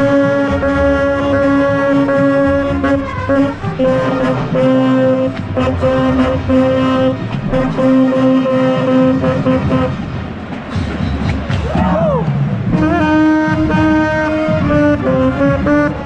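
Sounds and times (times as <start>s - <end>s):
marching band brass and saxophones: 0.0s - 16.0s.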